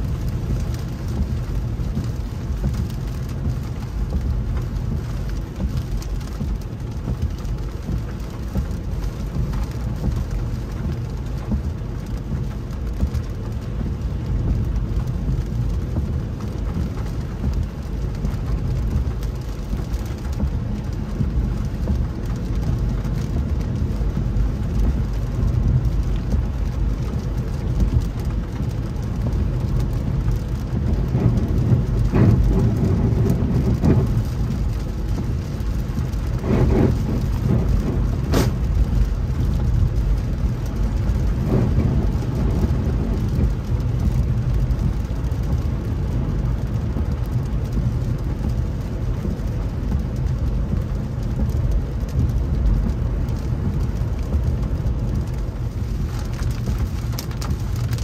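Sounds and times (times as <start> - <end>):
rain hitting a car: 0.0 - 58.0
tyres rumbling on wet road: 0.0 - 58.0
wind: 0.0 - 58.0.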